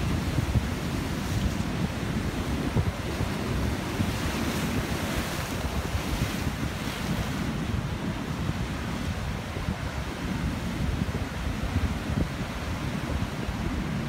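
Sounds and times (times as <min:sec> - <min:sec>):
surf breaking over rocks: 0:00.0 - 0:14.0
wind buffeting microphone: 0:00.0 - 0:14.0.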